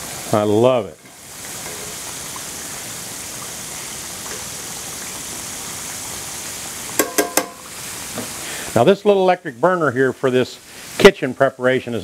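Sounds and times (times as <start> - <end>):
fish sizzling in hot oil: 0.0 - 9.7, 10.6 - 11.2.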